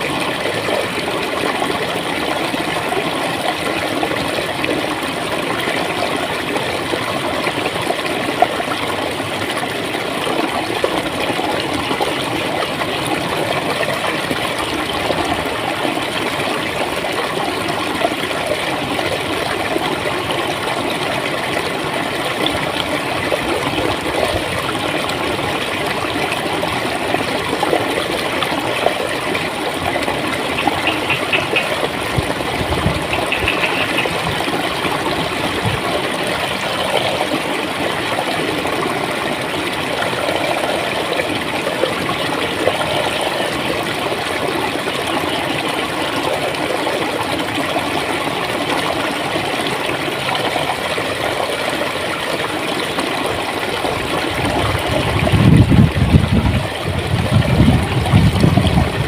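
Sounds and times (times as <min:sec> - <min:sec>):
water flowing and gurgling: 0:00.0 - 0:59.0.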